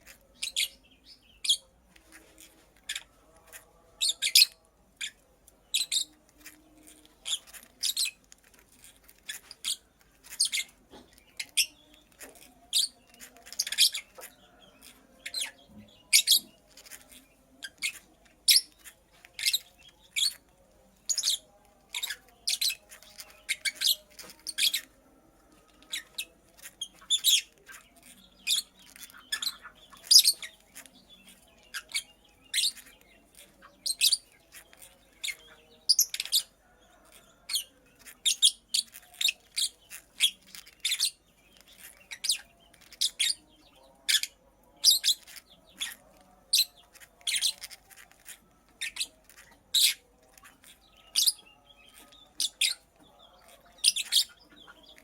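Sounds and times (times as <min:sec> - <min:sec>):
lovebird chirping: 0:00.0 - 0:25.0, 0:25.6 - 0:55.0.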